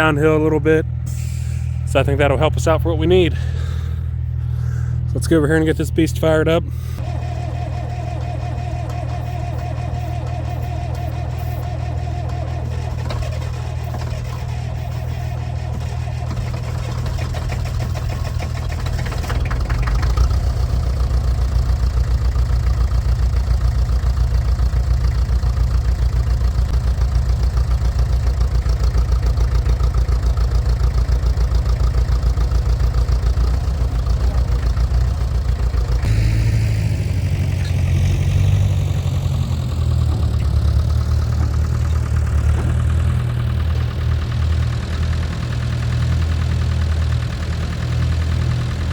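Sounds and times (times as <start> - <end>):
diesel engine clatter: 0.0 - 48.9.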